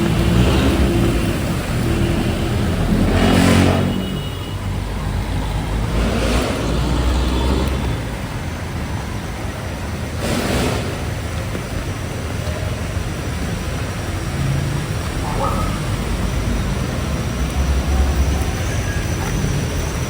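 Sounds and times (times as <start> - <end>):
steady traffic hiss: 0.0 - 20.0
vehicle engines running: 0.0 - 20.0
vehicles rushing past: 0.0 - 20.0.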